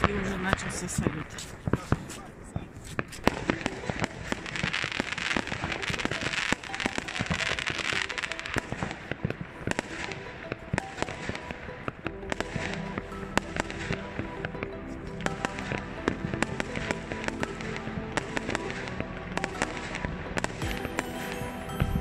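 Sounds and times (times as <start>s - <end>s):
fireworks bangs and crackling: 0.0s - 22.0s
hissing crackle: 0.0s - 22.0s
music with held notes: 3.2s - 22.0s.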